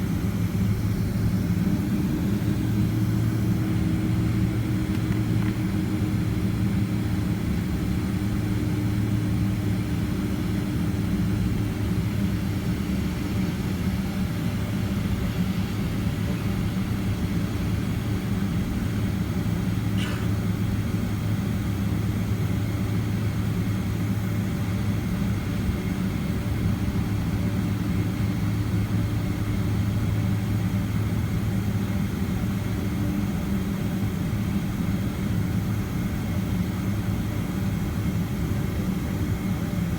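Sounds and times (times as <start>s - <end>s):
jet engines idling in cabin: 0.0s - 39.9s.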